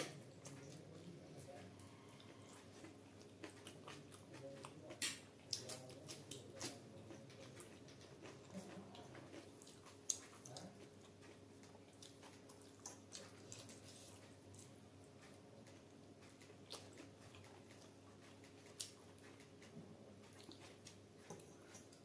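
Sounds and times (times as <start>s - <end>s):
wet chewing: 0.0s - 22.0s.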